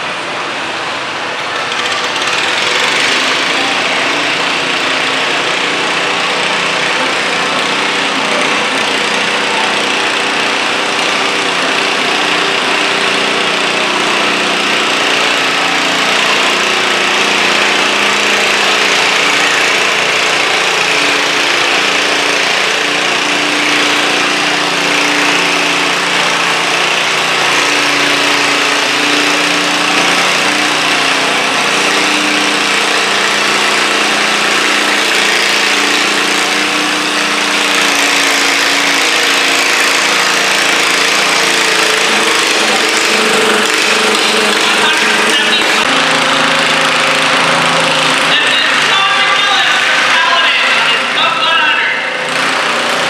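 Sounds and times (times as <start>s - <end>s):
small engine running hard: 0.0s - 53.0s.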